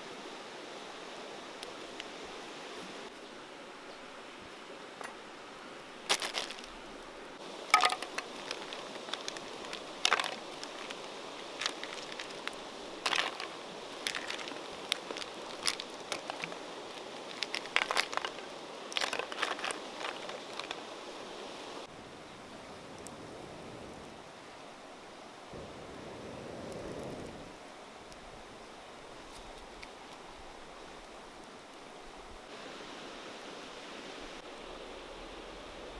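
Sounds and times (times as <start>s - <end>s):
wood fire crackling: 0.8s - 3.2s, 3.9s - 24.8s, 25.4s - 32.5s.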